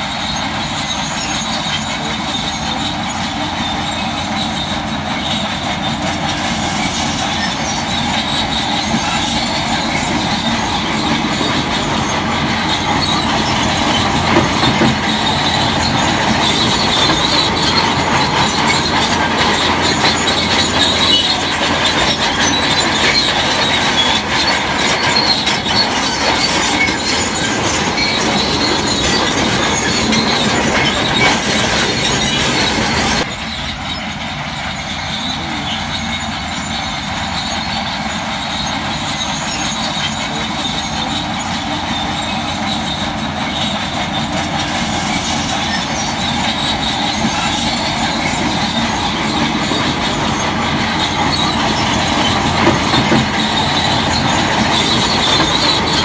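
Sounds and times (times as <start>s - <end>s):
crawler tracks clanking and squealing: 0.0s - 56.0s
diesel engine: 0.0s - 56.0s.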